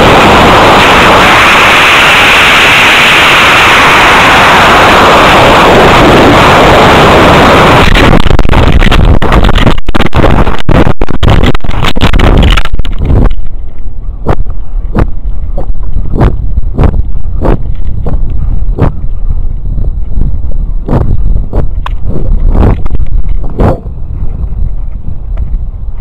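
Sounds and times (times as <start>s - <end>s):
rocket motor rushing: 0.0s - 24.4s
wind buffeting microphone: 0.0s - 26.0s.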